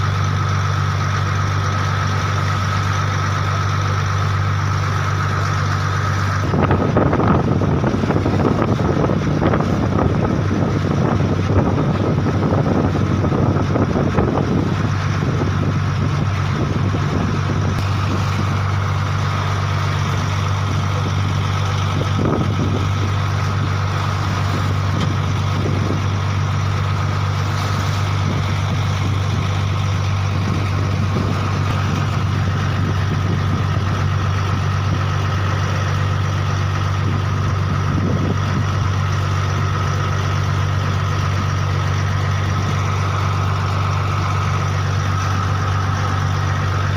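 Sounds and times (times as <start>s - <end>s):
large engine humming: 0.0s - 46.9s.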